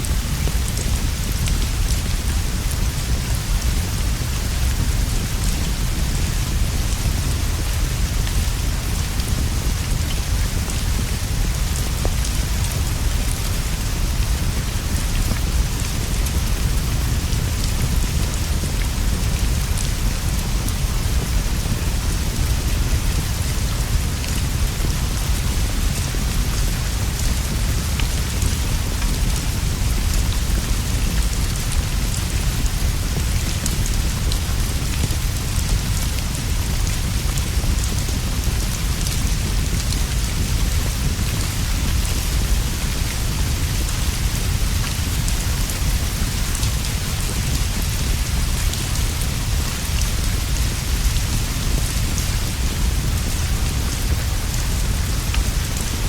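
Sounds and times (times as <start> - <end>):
rain on leaves and straw roof: 0.0 - 56.0.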